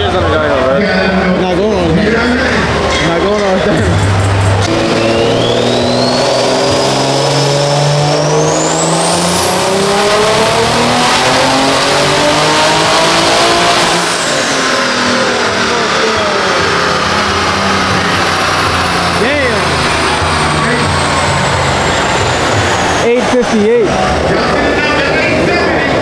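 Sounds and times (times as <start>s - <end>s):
car engine revving: 0.0s - 26.0s
turbo whine: 0.0s - 26.0s.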